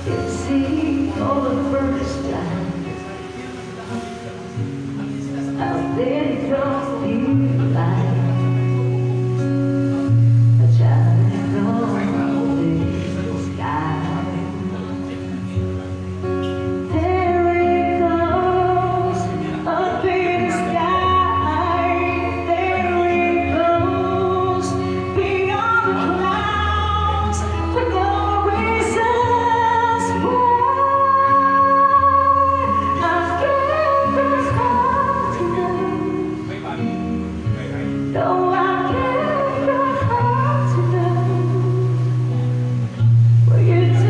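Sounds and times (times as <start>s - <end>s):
woman singing a ballad: 0.0s - 3.2s, 5.5s - 15.0s, 15.6s - 37.0s, 37.9s - 44.0s
soft musical accompaniment: 0.0s - 44.0s.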